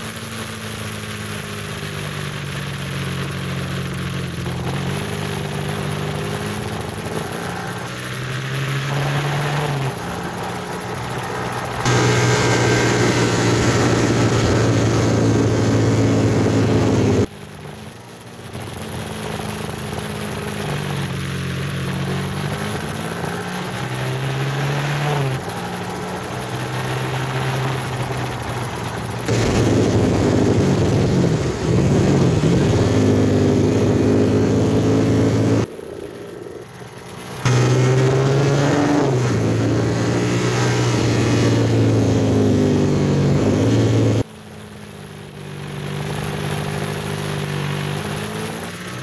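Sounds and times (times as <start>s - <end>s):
road or wind noise: 0.0s - 49.0s
vehicle engine running: 0.0s - 49.0s.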